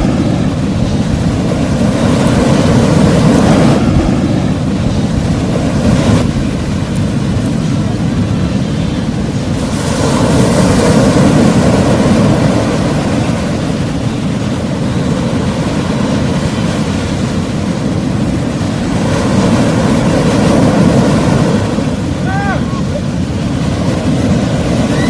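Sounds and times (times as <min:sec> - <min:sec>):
waves breaking on shore: 0:00.0 - 0:25.0
wind buffeting microphone: 0:00.0 - 0:25.0.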